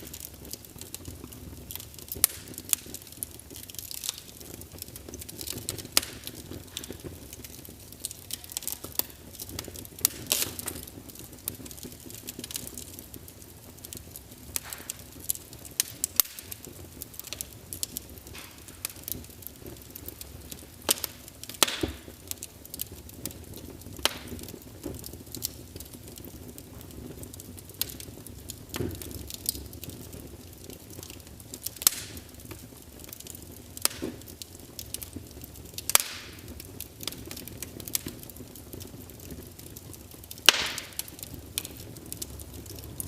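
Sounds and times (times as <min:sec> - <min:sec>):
low rumble of burning logs: 0:00.0 - 0:43.0
wood fire crackling and popping: 0:00.0 - 0:43.0.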